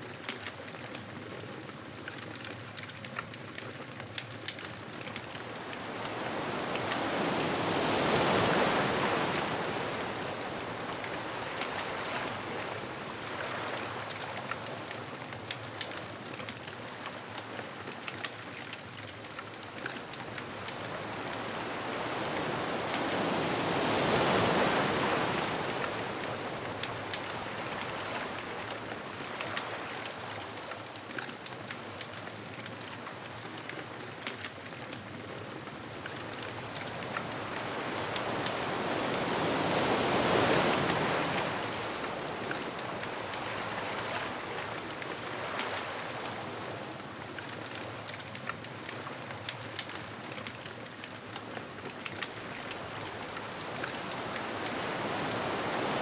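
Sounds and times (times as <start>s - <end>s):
ocean surf on a beach: 0.0s - 56.0s
bonfire crackling: 0.1s - 56.0s.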